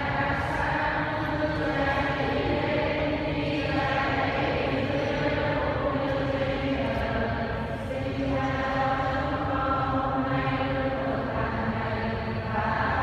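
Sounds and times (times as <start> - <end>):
congregation chanting in unison: 0.0 - 13.0.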